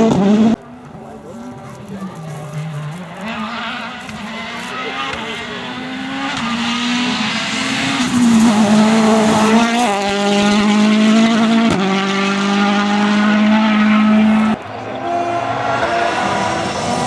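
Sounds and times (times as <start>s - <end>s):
rally car engine revving high: 0.0s - 17.0s.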